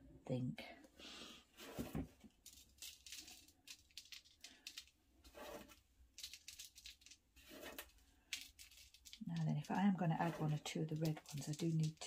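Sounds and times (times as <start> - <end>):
sequins rustling on paper: 1.6 - 12.0.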